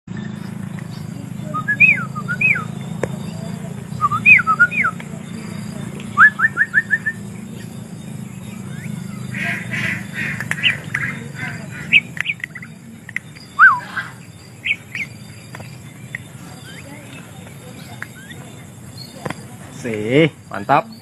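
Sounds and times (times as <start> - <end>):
bird harsh chattering: 0.2 - 19.9
bird whistled calls: 0.8 - 19.2.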